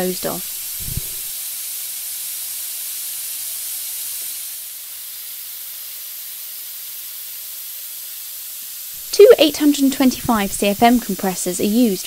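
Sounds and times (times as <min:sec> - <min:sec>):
rushing air hiss: 0:00.0 - 0:12.0.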